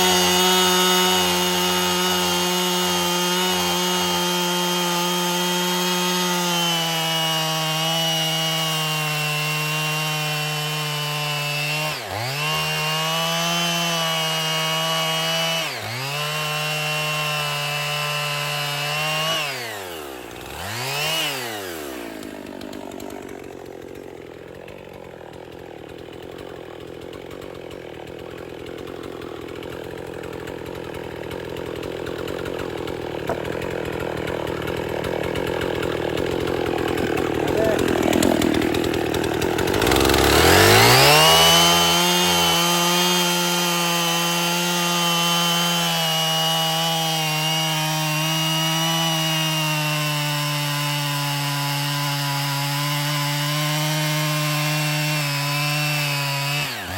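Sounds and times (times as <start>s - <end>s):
chainsaw engine revving and idling: 0.0s - 56.9s.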